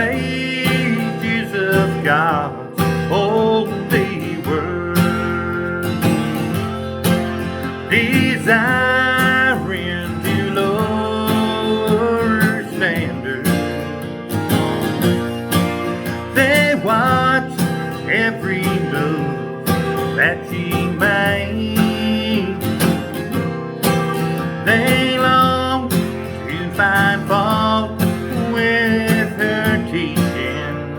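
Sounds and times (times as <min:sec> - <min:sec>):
acoustic guitar backing: 0:00.0 - 0:30.9
sliding lead melody: 0:00.0 - 0:30.9.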